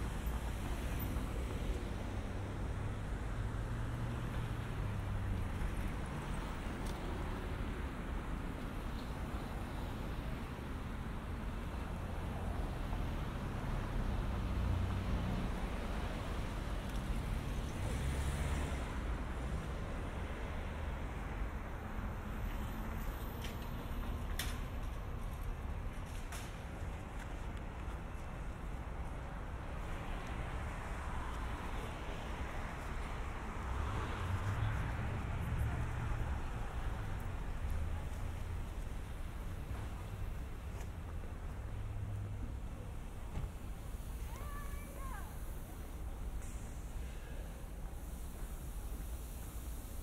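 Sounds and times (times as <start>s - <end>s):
cars driving past: 0.0s - 27.0s, 28.0s - 50.0s
deep vehicle rumble: 0.0s - 50.0s.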